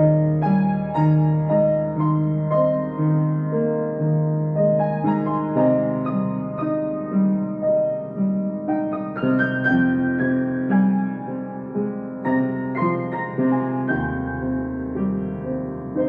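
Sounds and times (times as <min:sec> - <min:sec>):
solo piano melody: 0:00.0 - 0:16.0.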